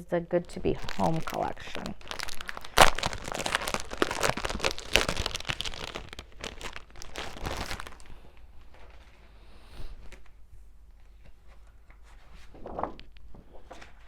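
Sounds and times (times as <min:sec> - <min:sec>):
paper crinkling and rustling: 0:00.4 - 0:09.3, 0:11.0 - 0:14.0.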